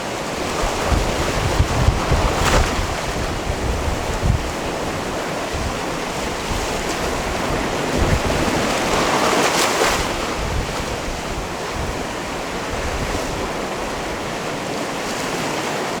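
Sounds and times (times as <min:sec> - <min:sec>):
wind buffeting microphone: 0:00.0 - 0:15.3
waves washing against rocks: 0:00.0 - 0:16.0.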